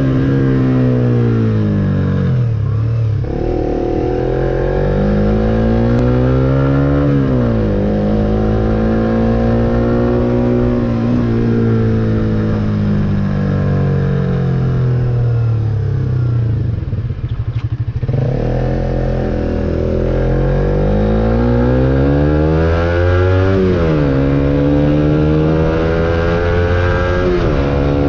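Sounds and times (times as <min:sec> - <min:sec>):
motorcycle accelerating through gears: 0:00.0 - 0:28.0.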